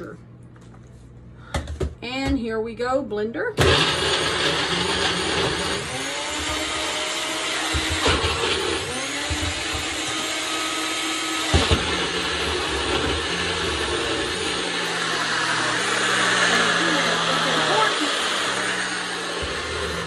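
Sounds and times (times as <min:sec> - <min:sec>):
blender motor running: 0:03.6 - 0:20.0.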